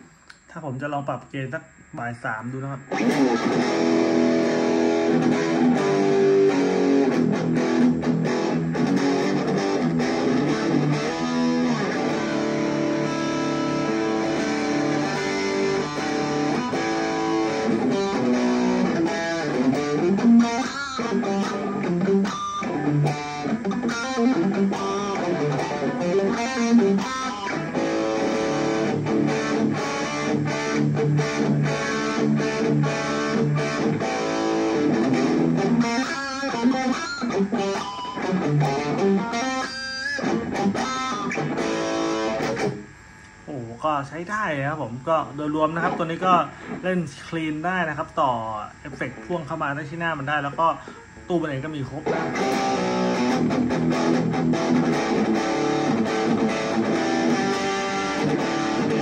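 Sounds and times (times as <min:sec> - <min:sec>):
overdriven electric guitar: 0:02.8 - 0:43.5, 0:45.6 - 0:47.2, 0:50.2 - 0:59.0.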